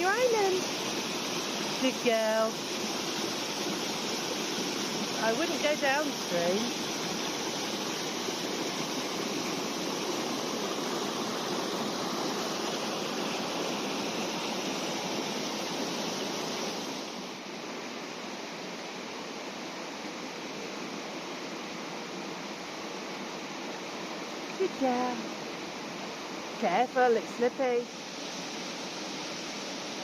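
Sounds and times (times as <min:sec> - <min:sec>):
river water rushing over rocks: 0:00.0 - 0:24.5, 0:25.3 - 0:30.0.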